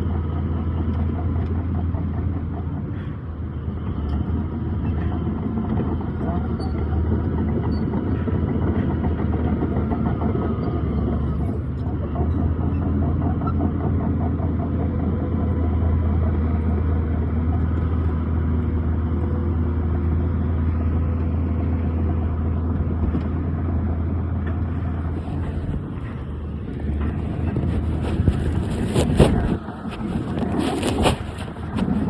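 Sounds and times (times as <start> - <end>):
heavy diesel engine droning: 0.0 - 32.0.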